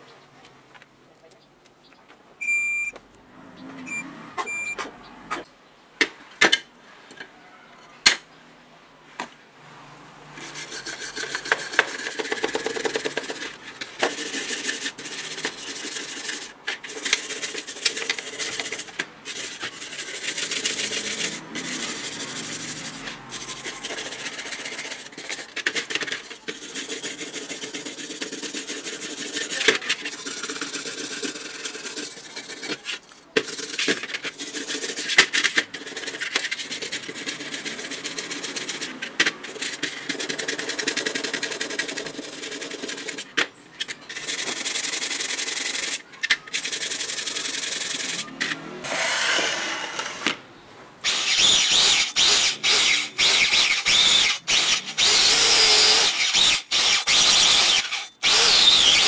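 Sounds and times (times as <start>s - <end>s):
stiff brush scrubbing metal: 10.3s - 49.9s, 51.0s - 59.0s.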